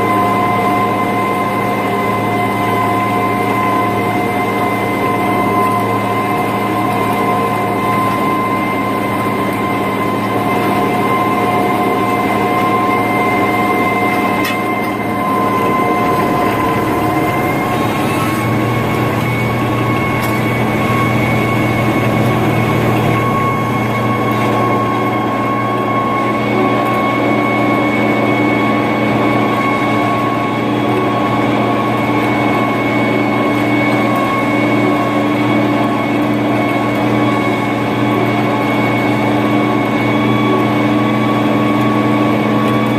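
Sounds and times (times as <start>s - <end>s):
high engine whine: 0.0s - 42.9s
tractor diesel engine drone: 0.0s - 42.9s.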